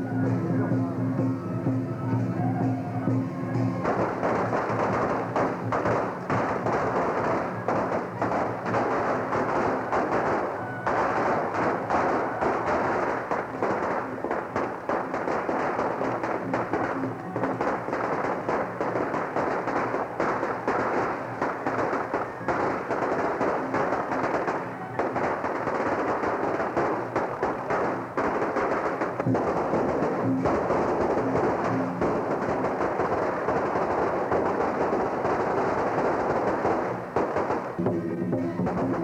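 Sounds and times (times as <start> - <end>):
firecrackers crackling: 0.0 - 39.0
held musical notes: 0.0 - 39.0
music playing: 0.0 - 39.0.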